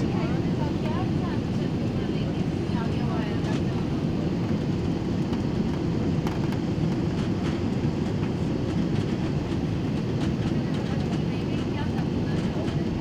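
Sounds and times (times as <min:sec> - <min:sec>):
jet cabin engine and airflow noise: 0:00.0 - 0:13.0.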